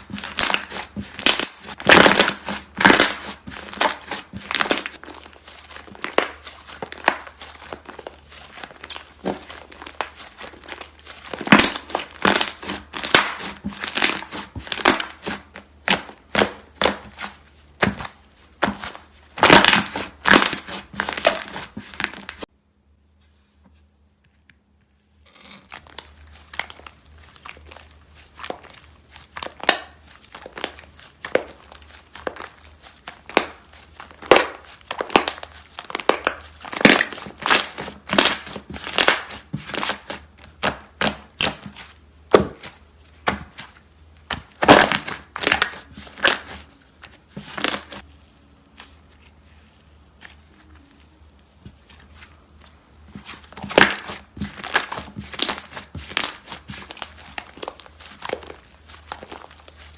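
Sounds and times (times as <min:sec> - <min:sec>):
slime crackling and popping: 0:00.0 - 0:22.5, 0:25.7 - 0:59.9.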